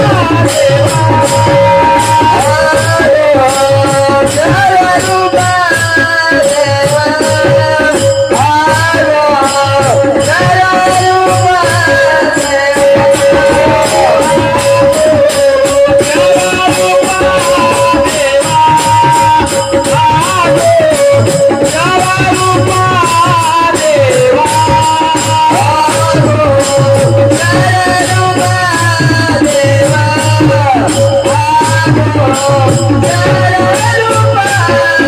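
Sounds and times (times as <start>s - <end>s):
jingling percussion: 0.0s - 35.0s
man singing in high voice: 0.0s - 35.0s.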